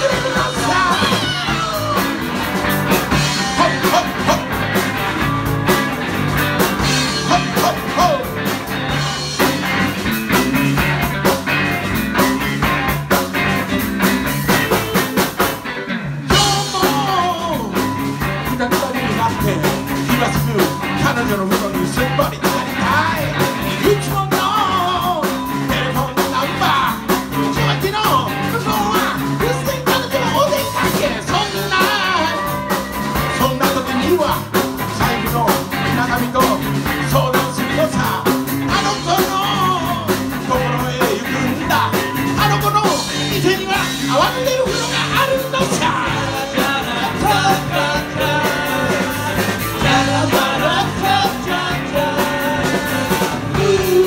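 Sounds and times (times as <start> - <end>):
man singing: 0.0 - 2.4, 3.1 - 4.6, 6.8 - 9.7, 16.3 - 54.0
drum kit: 0.0 - 54.0
electric guitars: 0.0 - 54.0.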